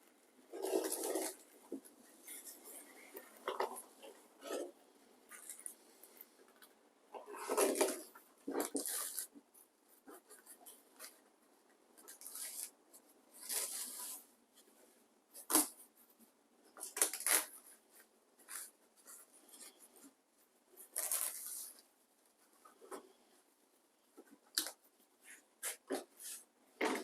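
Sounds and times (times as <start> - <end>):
material rustling and scraping: 0.0 - 27.0.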